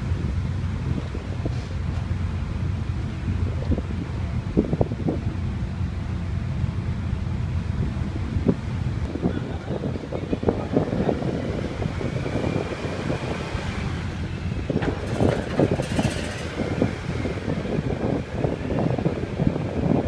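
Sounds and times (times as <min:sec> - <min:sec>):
wind buffeting microphone: 0:00.0 - 0:06.1, 0:07.2 - 0:20.0
ferry engine rumble: 0:00.0 - 0:20.0.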